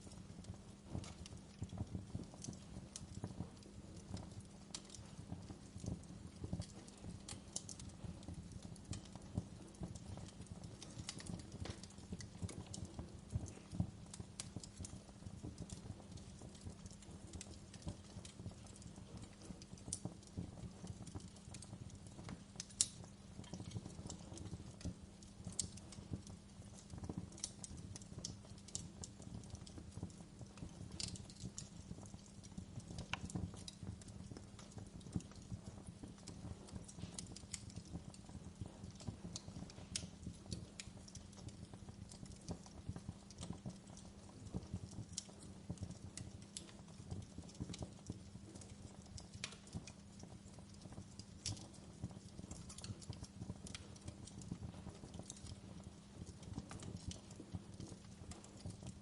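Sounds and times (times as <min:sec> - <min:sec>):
burning wood crackling and popping: 0:00.0 - 0:59.0
flames rumbling: 0:00.0 - 0:59.0.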